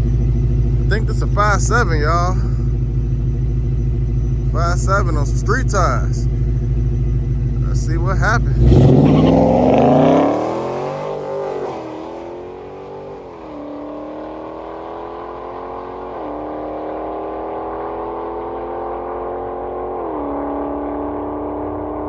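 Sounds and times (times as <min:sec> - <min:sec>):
car engine accelerating with upshifts: 0:00.0 - 0:22.0.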